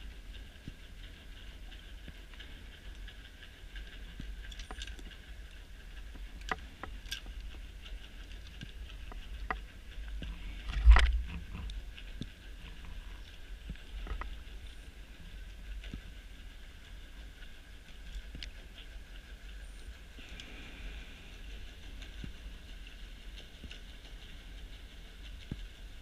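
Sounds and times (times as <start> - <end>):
faint whine: 0.0 - 26.0
underwater low rumble: 0.0 - 26.0.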